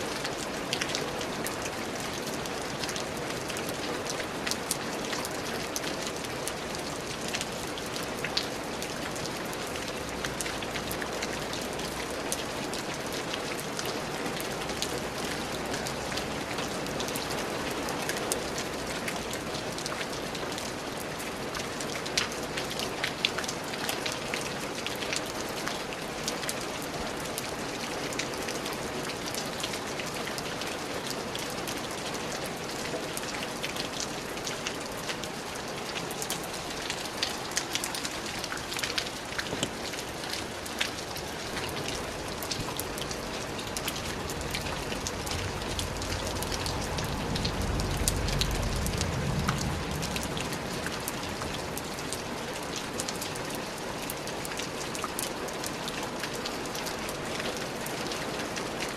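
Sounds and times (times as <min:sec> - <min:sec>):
steady rain with ticking drops: 0:00.0 - 0:58.9.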